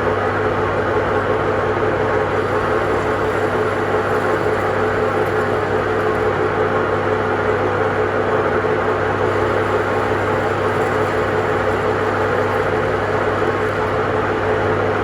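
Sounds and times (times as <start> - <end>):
machine hum with pitched tone: 0.0 - 15.0.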